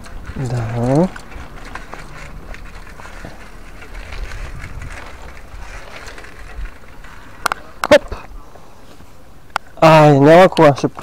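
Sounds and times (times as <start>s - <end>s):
bicycle tyres rumbling on paving: 0.0s - 9.2s.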